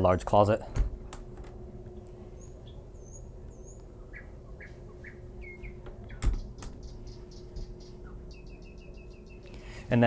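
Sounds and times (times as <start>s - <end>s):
steady hum: 0.0s - 10.0s
small birds chirping: 1.9s - 10.0s.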